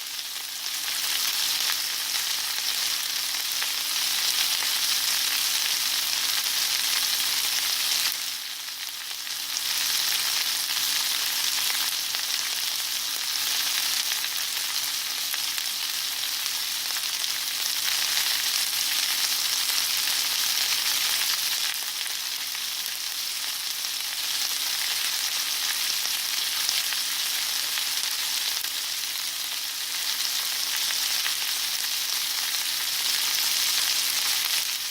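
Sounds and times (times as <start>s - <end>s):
steak sizzling: 0.0s - 34.9s.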